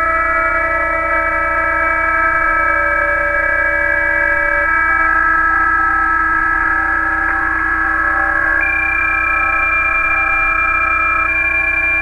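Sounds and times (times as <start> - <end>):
chord of steady data tones: 0.0 - 12.0.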